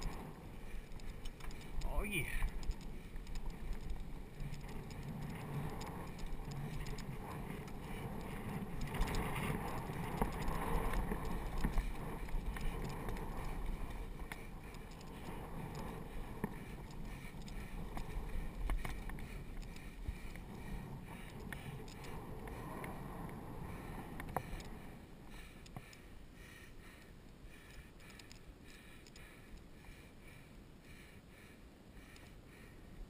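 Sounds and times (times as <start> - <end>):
wind rumble on camera: 0.0 - 30.8
bike rattling and clicking: 0.0 - 31.1
bicycle tyres on dirt trail: 0.0 - 33.0.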